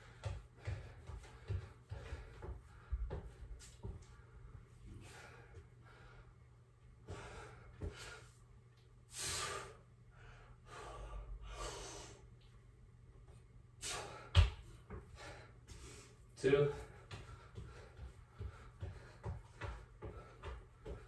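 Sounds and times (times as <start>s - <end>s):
man breathing hard: 0.0s - 8.5s, 9.1s - 12.4s, 13.8s - 21.0s.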